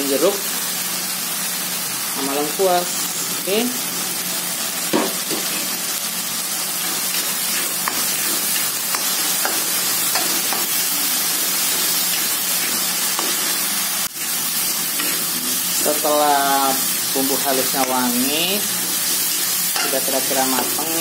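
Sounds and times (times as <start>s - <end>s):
paste sizzling in oil: 0.0s - 21.0s.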